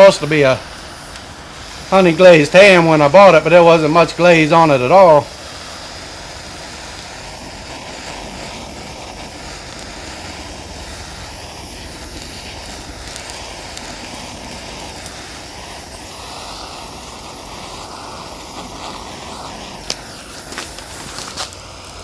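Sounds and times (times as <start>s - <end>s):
propane torch hissing: 0.0s - 22.0s.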